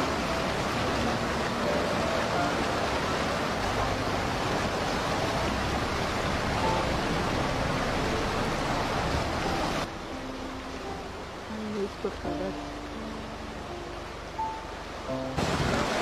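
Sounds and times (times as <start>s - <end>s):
river rushing over rapids: 0.0s - 16.0s.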